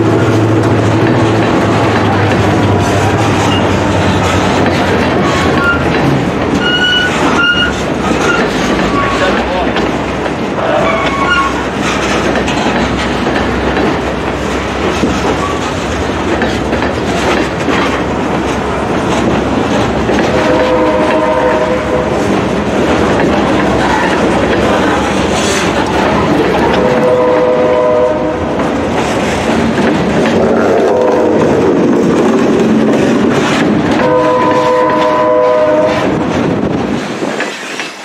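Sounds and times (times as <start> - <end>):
train wheels clacking on rail: 0.0 - 38.0.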